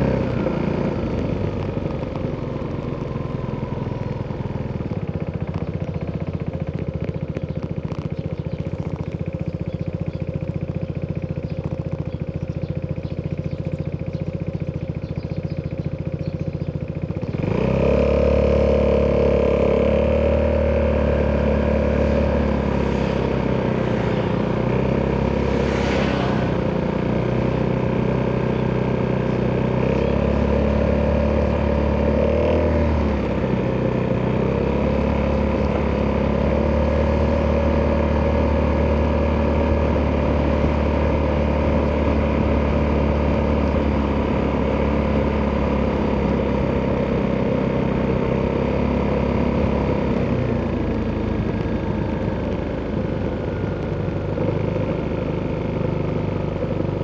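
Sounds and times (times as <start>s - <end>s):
scooter engine cruising: 0.0s - 57.0s.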